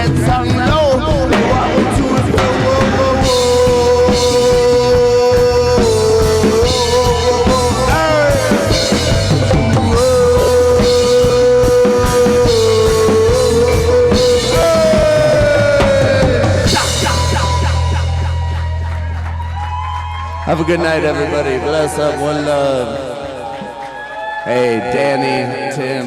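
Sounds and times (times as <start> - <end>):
live reggae band: 0.0 - 26.0.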